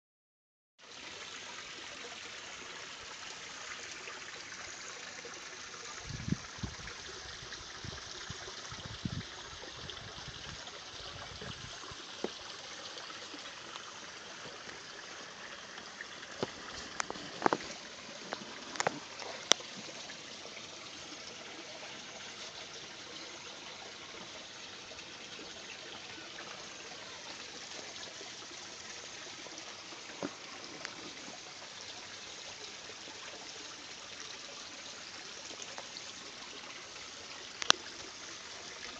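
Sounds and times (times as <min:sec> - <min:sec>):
running water trickling: 0:00.8 - 0:38.9.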